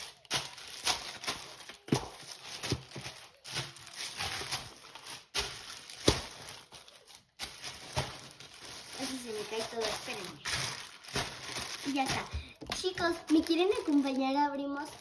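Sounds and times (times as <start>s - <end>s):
plastic packages rustling: 0.0s - 15.0s.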